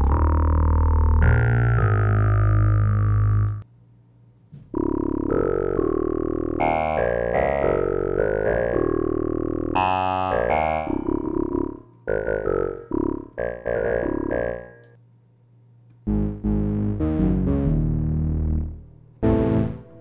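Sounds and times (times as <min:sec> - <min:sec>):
synthesizer chords and notes: 0:00.0 - 0:03.6, 0:04.7 - 0:15.0, 0:16.1 - 0:20.0.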